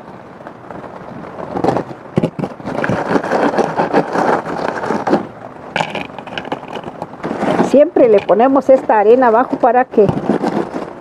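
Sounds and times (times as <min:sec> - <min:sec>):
flowerpot and soil scraping: 0:01.4 - 0:11.0.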